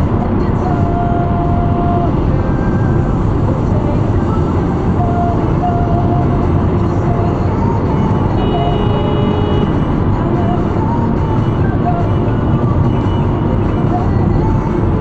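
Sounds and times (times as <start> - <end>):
car road and tyre noise: 0.0 - 15.0.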